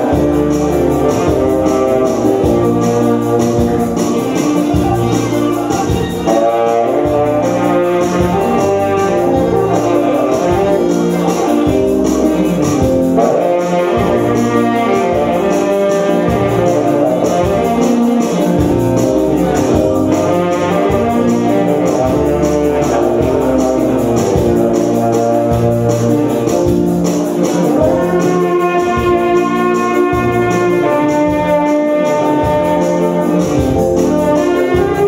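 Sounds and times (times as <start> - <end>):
bass line: 0.0 - 35.0
saxophone melody: 0.0 - 35.0
steady beat: 0.0 - 35.0.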